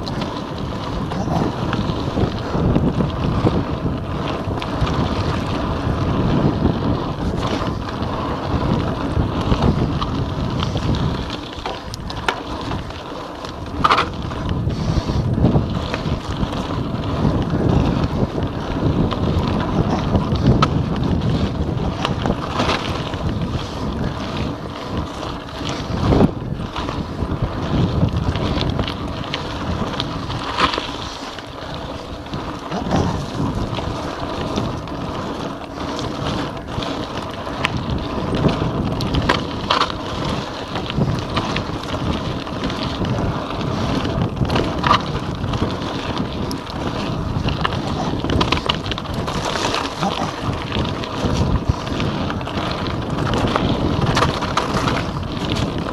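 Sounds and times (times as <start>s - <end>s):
mountain bike knocks and rattles: 0.0s - 55.9s
tyres on gravel trail: 0.0s - 55.9s
wind rushing over microphone: 0.0s - 55.9s.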